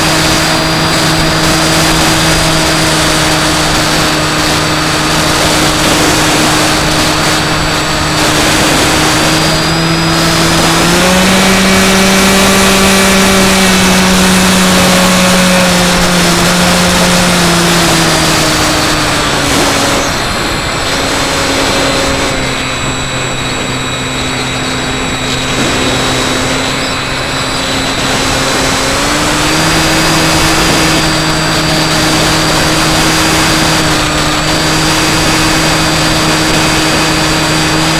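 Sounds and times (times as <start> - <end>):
electric motor and propeller whine: 0.0 - 37.9
rush of airflow: 0.0 - 37.9.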